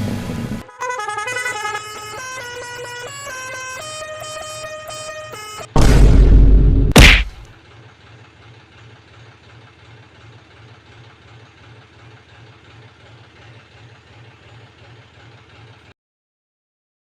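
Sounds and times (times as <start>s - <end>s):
engine idling with pulsing hum: 0.0s - 15.9s.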